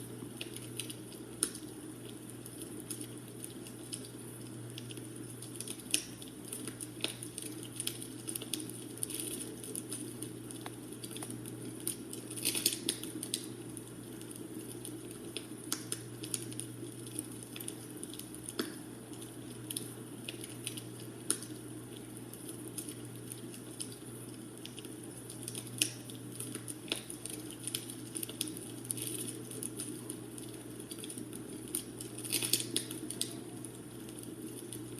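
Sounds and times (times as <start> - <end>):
low fire hiss: 0.0 - 34.9
wood fire crackling: 0.0 - 34.9.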